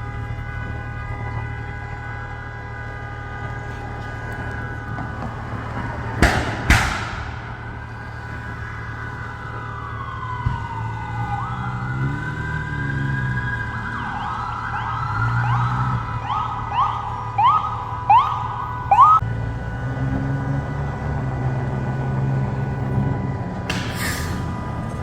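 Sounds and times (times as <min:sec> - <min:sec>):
emergency vehicle siren: 0:00.0 - 0:25.0
heavy engine rumble: 0:00.0 - 0:25.0.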